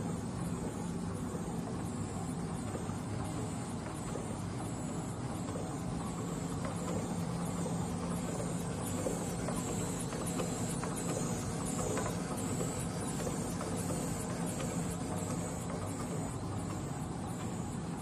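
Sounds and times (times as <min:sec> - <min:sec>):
machine motor hum: 0:00.0 - 0:18.0.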